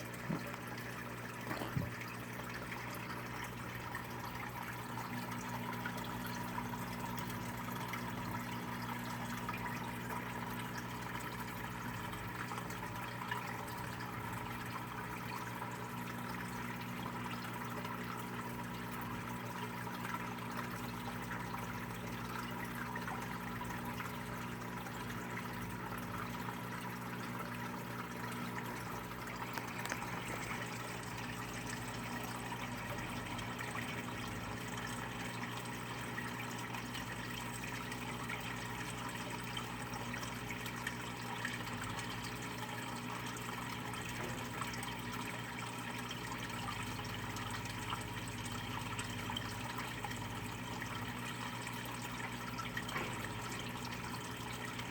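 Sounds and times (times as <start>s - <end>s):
low electrical hum: 0.0s - 54.9s.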